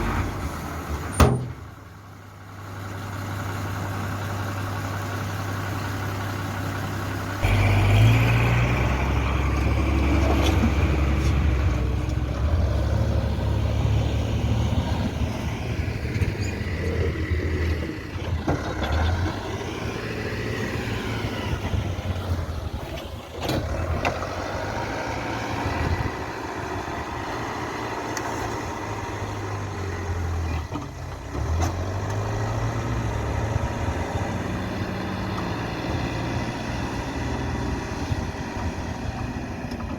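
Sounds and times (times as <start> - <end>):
backhoe diesel engine revving: 0.0 - 39.9.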